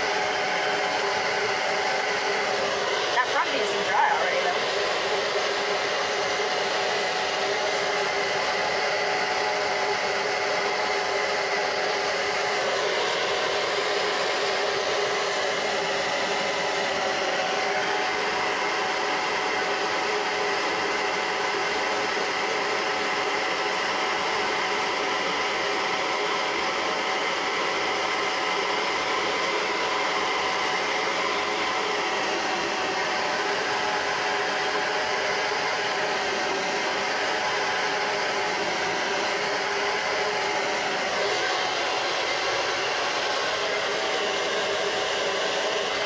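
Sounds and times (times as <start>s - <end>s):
hair dryer blowing air: 0.0s - 46.0s.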